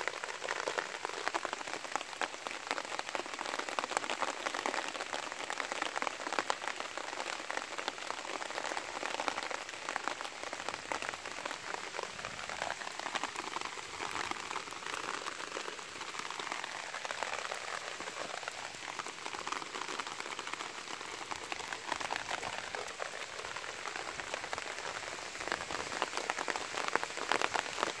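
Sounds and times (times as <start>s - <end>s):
rain pattering on wet ground: 0.0s - 28.0s.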